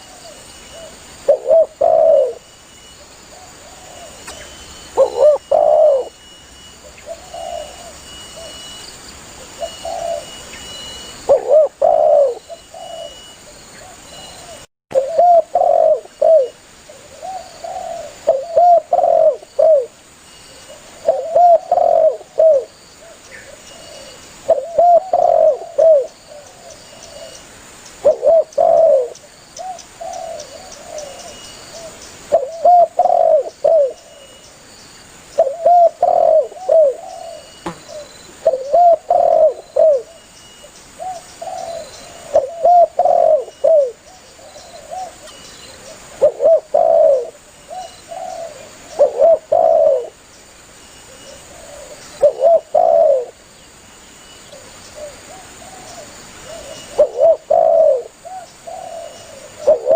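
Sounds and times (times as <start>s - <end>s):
dove cooing: 0.0s - 2.4s, 3.3s - 6.2s, 6.8s - 8.6s, 9.4s - 10.4s, 11.2s - 19.9s, 20.7s - 27.4s, 28.0s - 34.4s, 35.4s - 40.2s, 41.0s - 50.2s, 51.1s - 53.4s, 54.5s - 59.9s.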